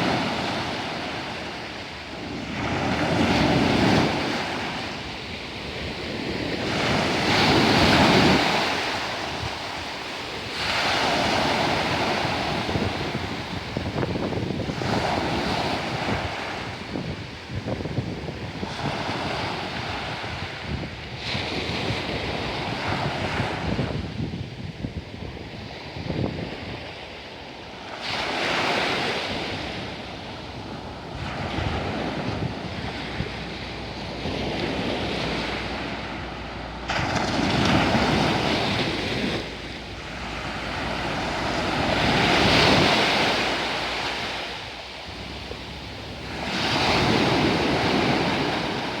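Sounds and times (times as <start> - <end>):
sea waves breaking on shore: 0.0 - 49.0
wind rumbling on microphone: 0.0 - 49.0.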